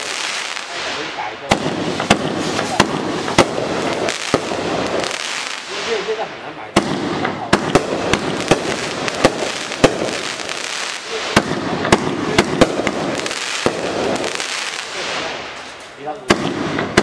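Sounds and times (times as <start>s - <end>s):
continuous fireworks hiss: 0.0s - 17.0s
fireworks shot reports and bursts: 0.0s - 17.0s.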